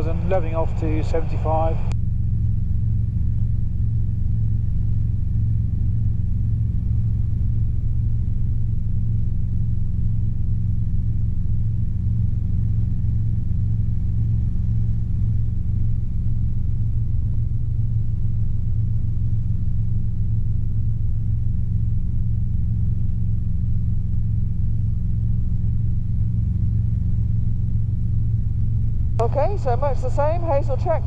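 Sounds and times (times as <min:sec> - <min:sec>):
helicopter engine and rotors droning: 0:00.0 - 0:31.0.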